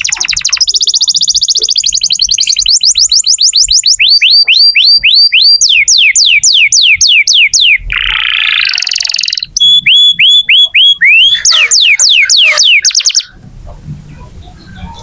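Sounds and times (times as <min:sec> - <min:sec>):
canary singing: 0:00.0 - 0:13.5.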